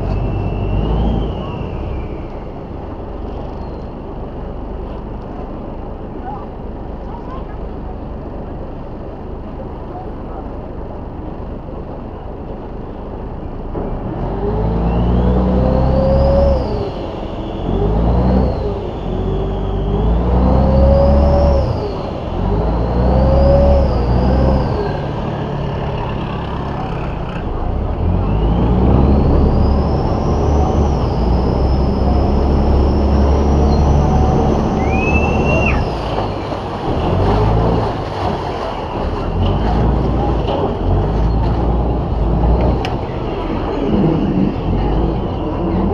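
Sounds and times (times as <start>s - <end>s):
boat engine droning and revving: 0.0s - 45.9s.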